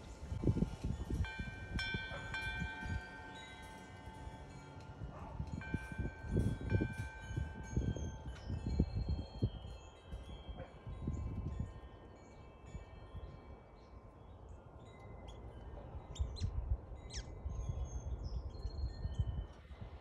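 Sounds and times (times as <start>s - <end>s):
metal wind chime ringing: 0.0s - 20.0s.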